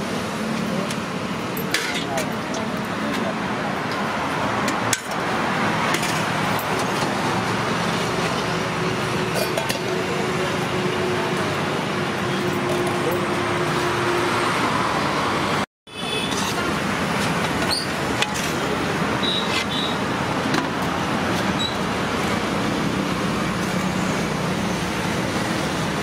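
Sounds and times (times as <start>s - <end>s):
roadside traffic noise: 0.0s - 26.0s.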